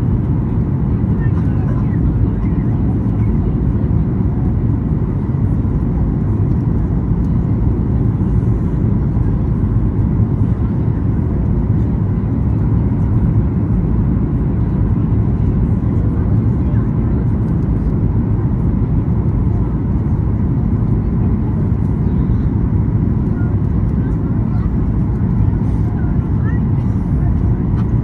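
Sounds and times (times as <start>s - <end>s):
airplane cabin engine roar: 0.0s - 28.0s.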